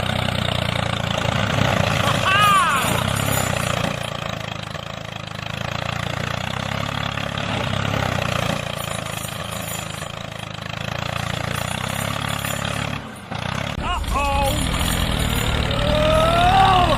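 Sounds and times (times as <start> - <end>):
small motor running: 0.0 - 16.9.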